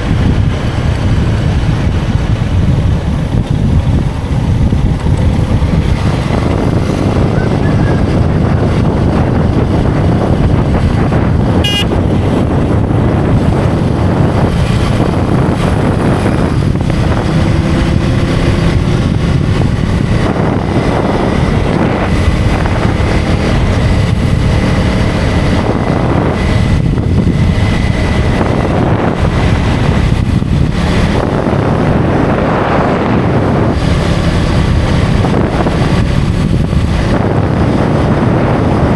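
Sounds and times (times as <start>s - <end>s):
motorcycle engine riding: 0.0s - 38.9s
wind rushing over microphone: 0.0s - 38.9s.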